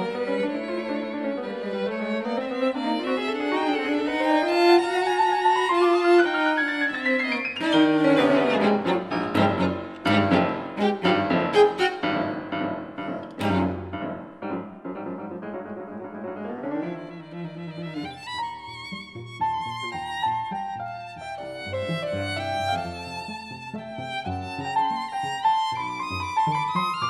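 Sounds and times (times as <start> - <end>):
piano chords: 0.0 - 23.5
bowed strings: 0.0 - 27.0.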